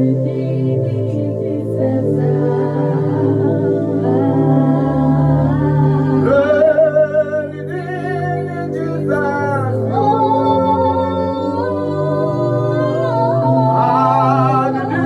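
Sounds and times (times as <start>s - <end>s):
long held chords: 0.0s - 15.0s
person singing slow melody: 0.0s - 15.0s.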